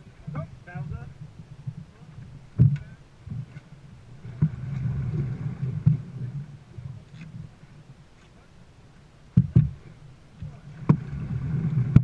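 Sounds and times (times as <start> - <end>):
wind on microphone: 0.0 - 8.5, 9.3 - 12.0.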